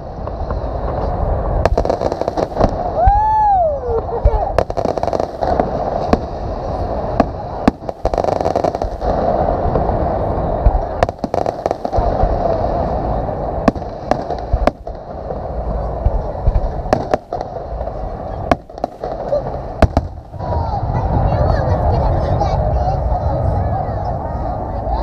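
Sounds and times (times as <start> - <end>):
fireworks bangs: 0.0 - 23.0
steady fireworks din: 0.0 - 25.0.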